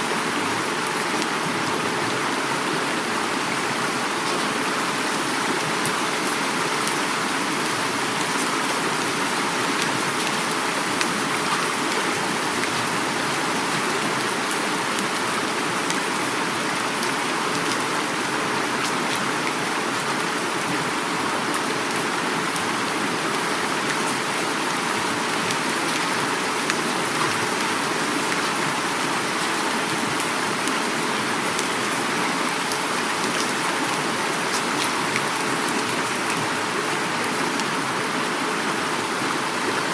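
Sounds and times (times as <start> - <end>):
flowing river water: 0.0 - 39.9
heavy rain falling: 0.0 - 39.9.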